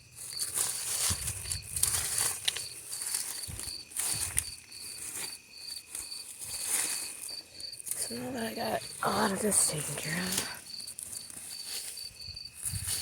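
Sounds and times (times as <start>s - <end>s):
insects chirping: 0.0s - 13.0s
scraping and rustling in soil: 0.0s - 13.0s.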